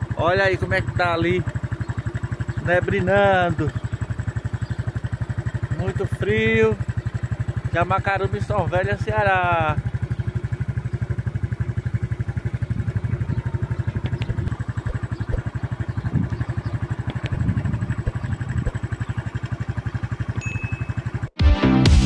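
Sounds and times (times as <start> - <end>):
vehicle engine idling: 0.0 - 21.4.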